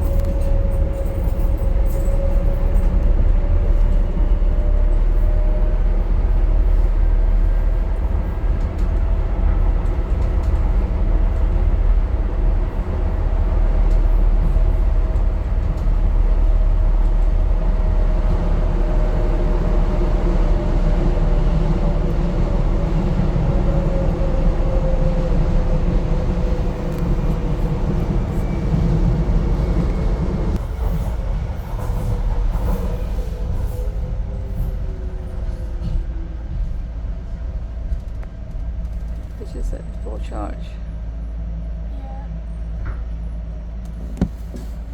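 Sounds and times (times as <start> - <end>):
wheels rumbling on track: 0.0 - 44.9.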